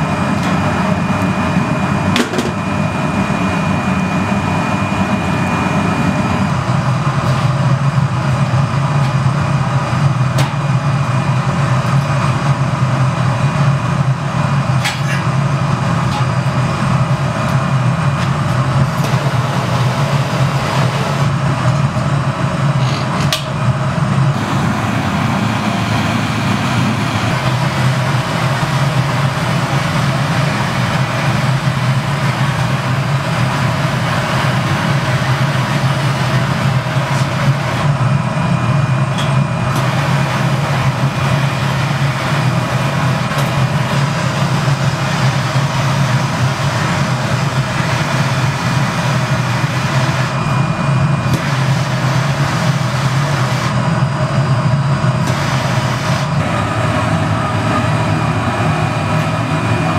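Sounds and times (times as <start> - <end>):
low hum: 0.0 - 53.1
gas burners roaring: 0.0 - 59.9.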